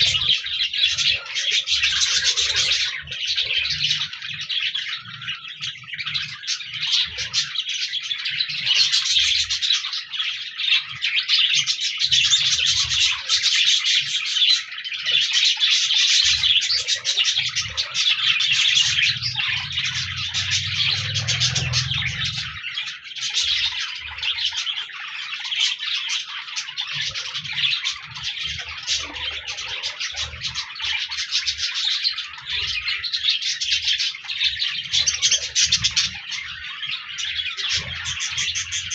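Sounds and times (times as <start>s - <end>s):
budgies chirping and warbling: 0.0s - 38.9s.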